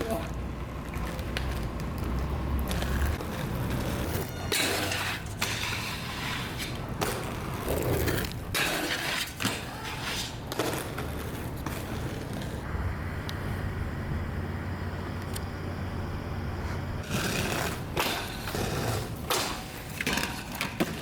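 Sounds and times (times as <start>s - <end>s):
hard wheels rolling on pavement: 0.0s - 21.0s.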